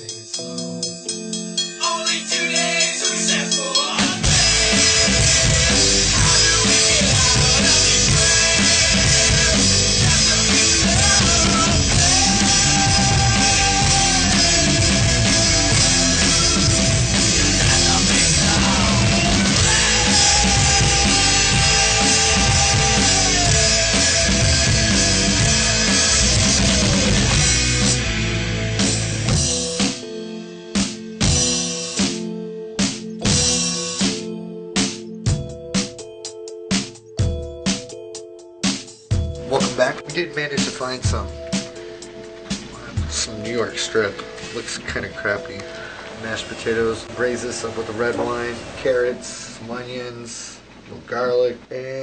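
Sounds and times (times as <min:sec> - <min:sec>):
electric guitar with bending notes: 0:00.0 - 0:50.0
drum kit: 0:00.0 - 0:50.8.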